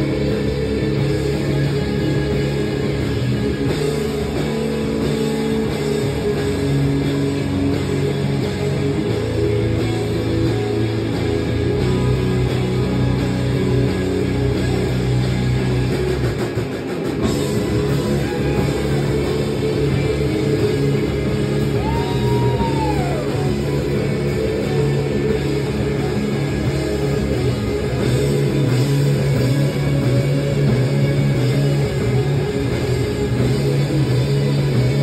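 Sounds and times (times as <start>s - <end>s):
drum kit: 0.0s - 35.0s
electric bass: 0.0s - 35.0s
electric guitars: 0.0s - 35.0s.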